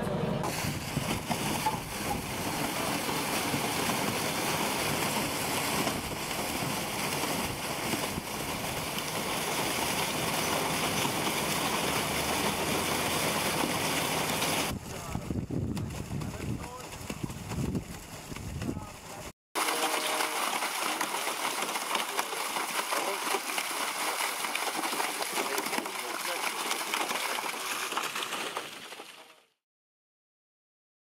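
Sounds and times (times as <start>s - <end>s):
water gushing and splashing: 0.4s - 15.6s, 19.6s - 29.3s.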